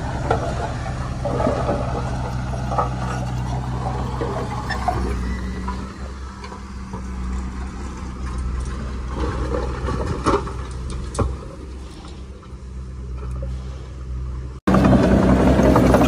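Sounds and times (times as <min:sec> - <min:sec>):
diesel machinery running: 0:00.0 - 0:16.0.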